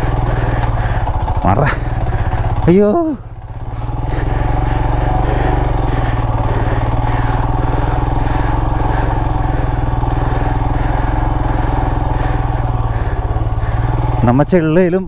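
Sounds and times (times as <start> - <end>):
motorcycle engine under load: 0.0 - 15.0.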